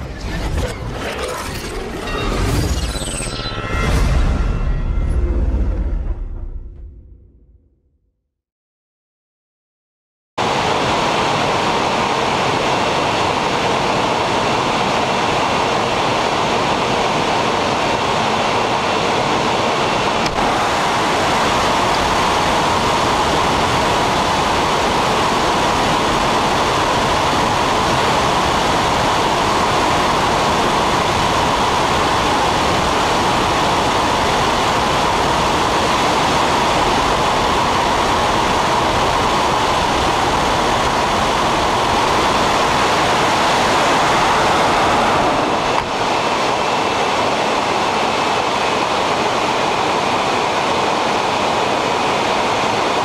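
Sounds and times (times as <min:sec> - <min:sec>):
military aircraft in flight: 0:10.4 - 0:53.0.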